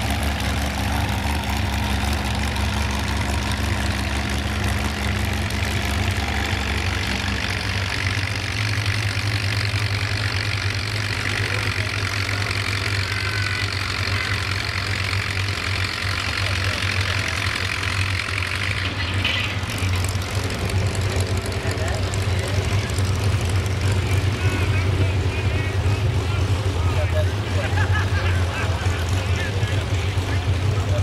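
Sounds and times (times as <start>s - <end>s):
tractor engine droning: 0.0s - 31.0s.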